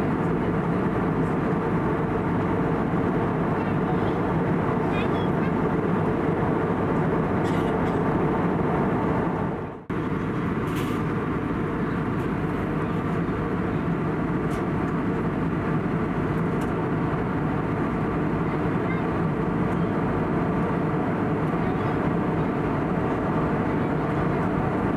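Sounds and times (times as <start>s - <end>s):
airplane cabin noise: 0.0s - 24.9s.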